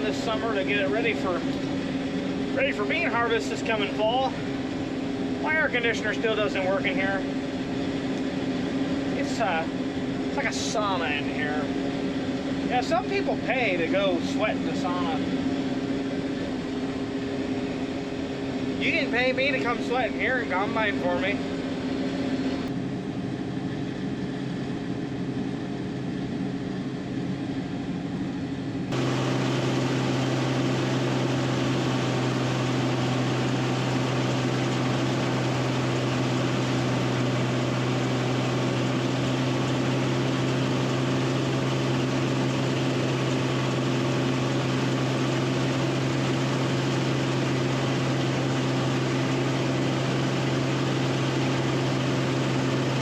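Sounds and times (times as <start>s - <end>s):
combine harvester engine and machinery: 0.0s - 53.0s.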